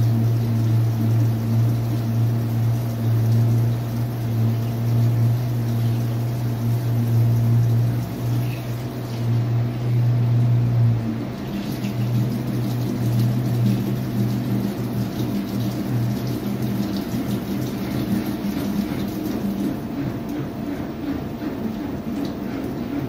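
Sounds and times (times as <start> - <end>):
washing machine running: 0.0 - 23.0
water and laundry sloshing: 0.0 - 23.0.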